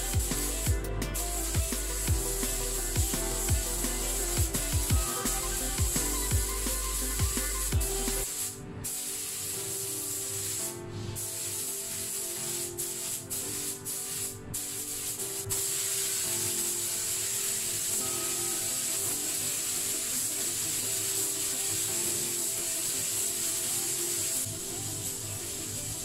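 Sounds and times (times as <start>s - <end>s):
spray gun hissing: 0.0s - 26.0s.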